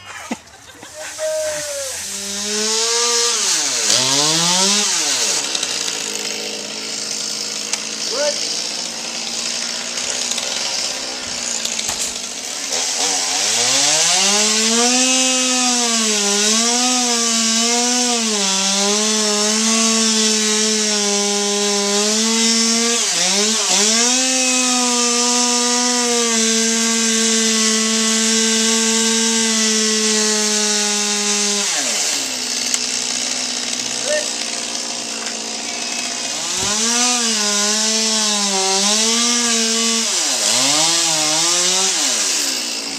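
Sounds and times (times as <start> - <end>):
chainsaw cutting: 0.0 - 42.9.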